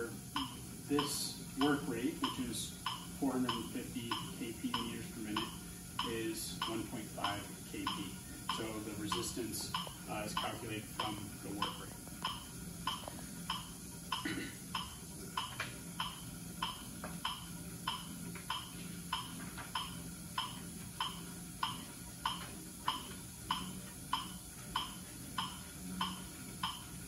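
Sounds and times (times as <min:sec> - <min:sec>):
metronome ticking: 0:00.3 - 0:27.0.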